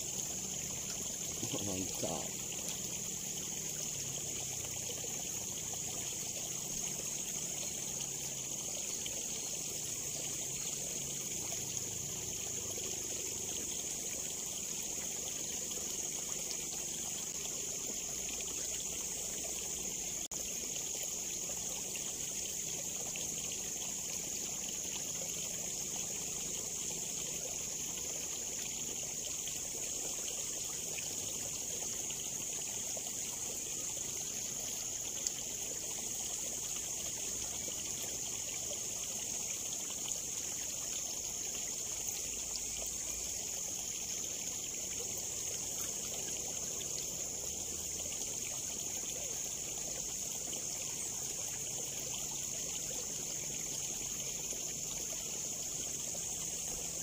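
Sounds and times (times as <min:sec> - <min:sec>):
water trickling in a ditch: 0:00.0 - 0:57.0.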